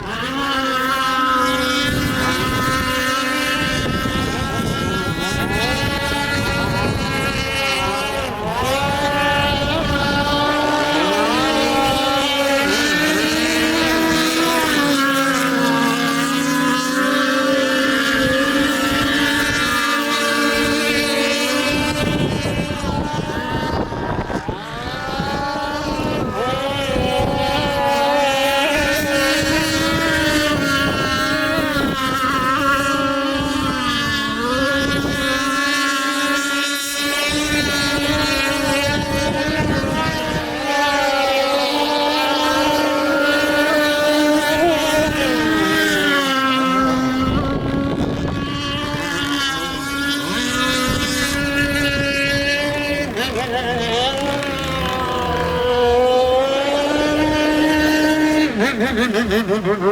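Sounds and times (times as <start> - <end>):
speedboat engine whining: 0.0 - 59.9.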